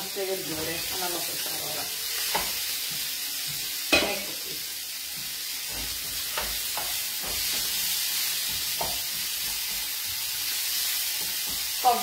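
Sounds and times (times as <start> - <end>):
greens sizzling in a frying pan: 0.0 - 12.0.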